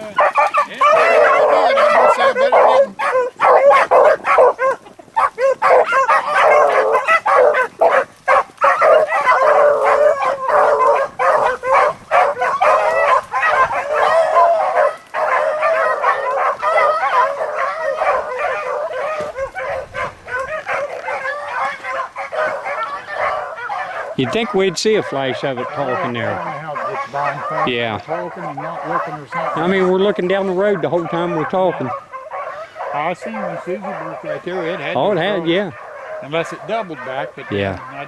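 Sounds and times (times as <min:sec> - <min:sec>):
hounds baying and yipping: 0:00.0 - 0:38.0.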